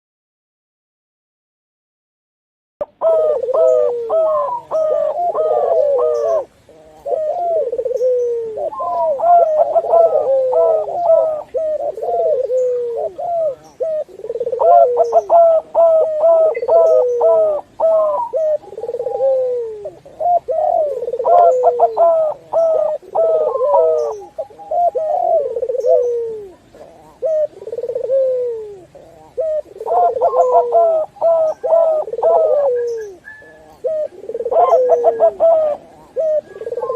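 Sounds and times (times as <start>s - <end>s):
doves cooing: 2.8s - 36.9s.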